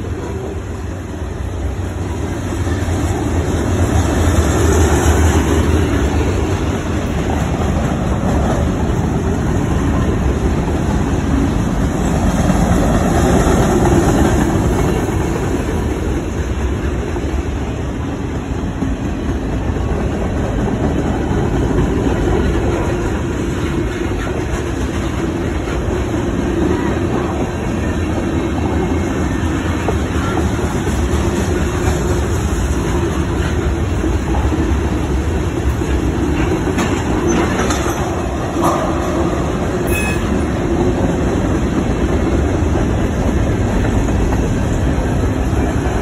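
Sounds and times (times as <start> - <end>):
freight train wheels on rails: 0.0 - 46.0.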